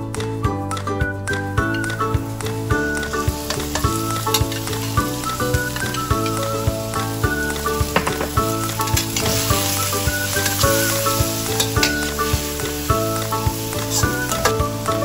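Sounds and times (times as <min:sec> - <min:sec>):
food sizzling in hot oil: 0:01.4 - 0:15.0.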